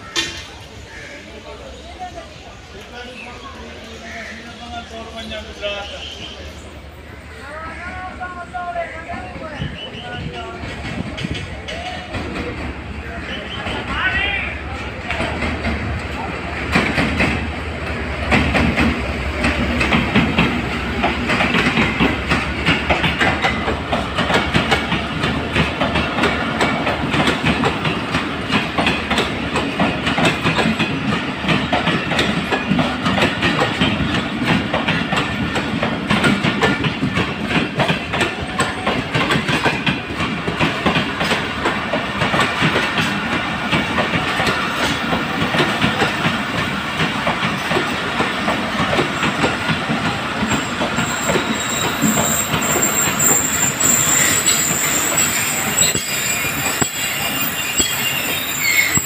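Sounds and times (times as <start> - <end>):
train wheels clacking over rail joints: 10.5 - 59.0.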